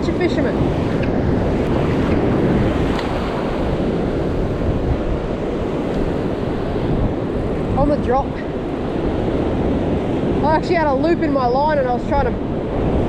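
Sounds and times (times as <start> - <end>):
ocean surf breaking: 0.0 - 13.0
wind on microphone: 0.0 - 13.0.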